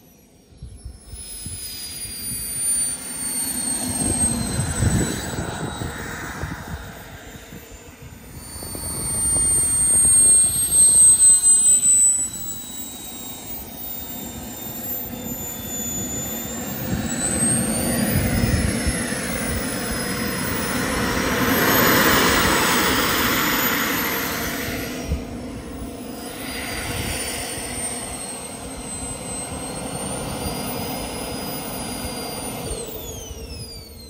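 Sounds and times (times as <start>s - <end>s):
jet turbine whining: 0.0s - 34.0s
rush of exhaust noise: 0.0s - 34.0s
loud fluttering rumble: 0.5s - 34.0s.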